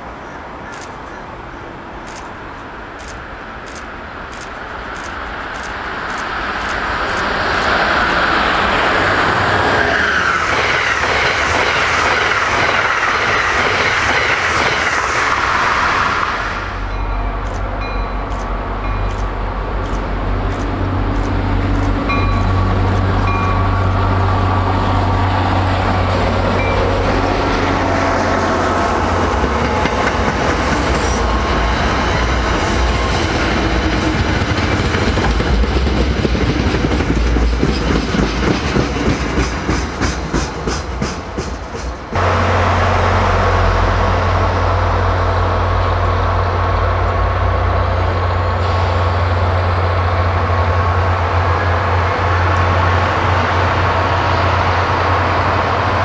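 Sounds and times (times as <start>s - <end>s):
train coaches rolling past: 0.0s - 56.0s
electric train rushing past: 1.3s - 56.0s
diesel locomotive rumble: 3.0s - 56.0s.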